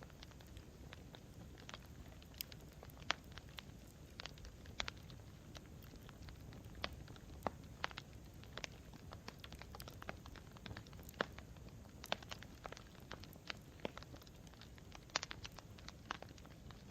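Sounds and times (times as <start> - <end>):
burning wood popping: 0.0 - 16.9
fire low rumble: 0.0 - 16.9.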